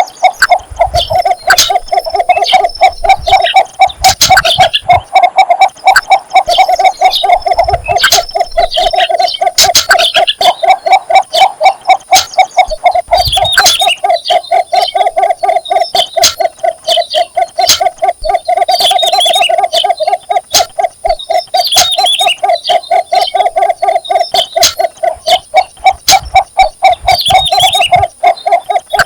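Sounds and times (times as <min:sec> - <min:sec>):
bird short high chirps: 0:00.0 - 0:29.0.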